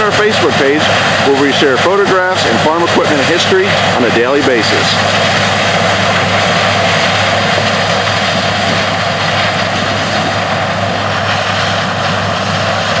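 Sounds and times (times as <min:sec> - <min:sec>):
diesel farm machinery engine drone: 0:00.0 - 0:13.0.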